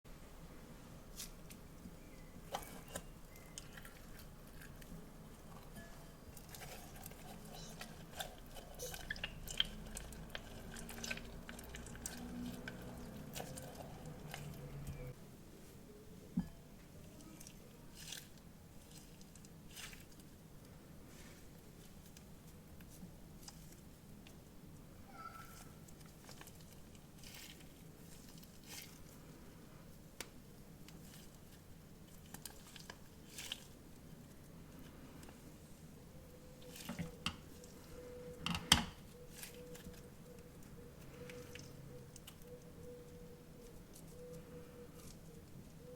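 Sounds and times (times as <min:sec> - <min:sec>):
stress ball squishing and crackling: 0:01.1 - 0:15.2, 0:21.6 - 0:45.9.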